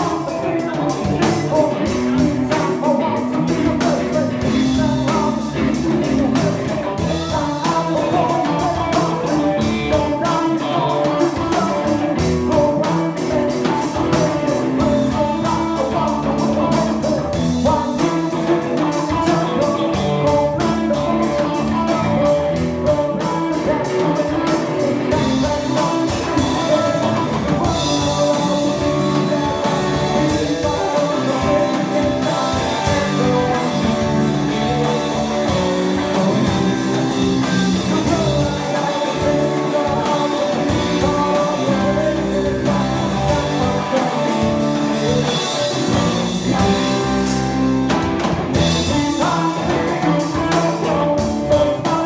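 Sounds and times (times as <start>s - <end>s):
live rock band playing: 0.0s - 52.0s
person singing: 0.0s - 52.0s.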